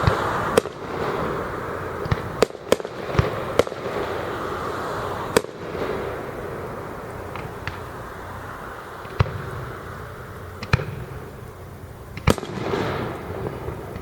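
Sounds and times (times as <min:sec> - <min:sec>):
crackling hiss: 0:00.0 - 0:14.0
fireworks bangs: 0:00.0 - 0:14.0.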